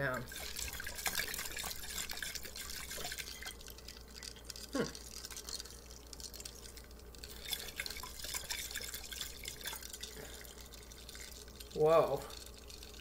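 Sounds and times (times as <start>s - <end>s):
water sloshing in a glass jar: 0.0s - 13.0s.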